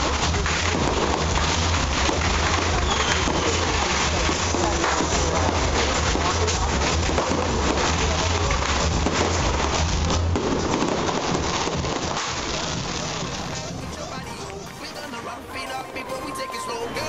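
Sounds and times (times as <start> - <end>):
crowd voices: 0.0 - 17.0
fireworks crackling: 0.0 - 17.0.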